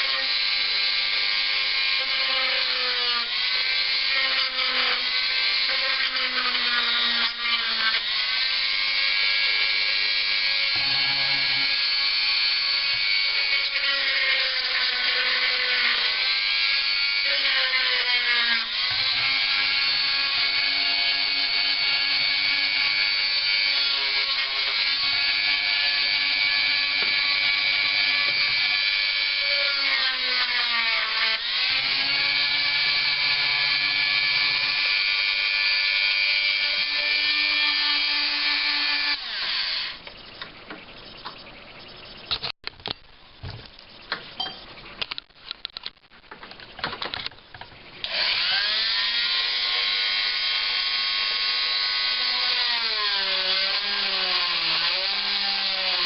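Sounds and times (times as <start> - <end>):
rotary tool whining: 0.0 - 42.6, 46.7 - 56.0.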